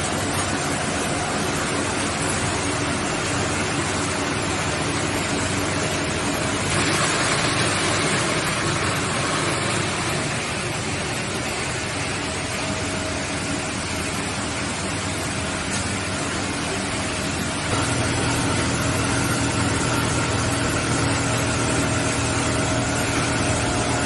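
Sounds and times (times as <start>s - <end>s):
machinery din with motor hum: 0.0s - 24.0s.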